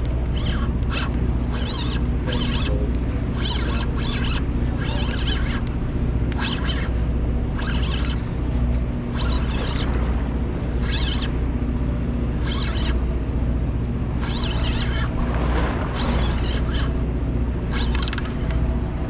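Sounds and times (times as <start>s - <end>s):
boat engine drone: 0.0s - 19.0s.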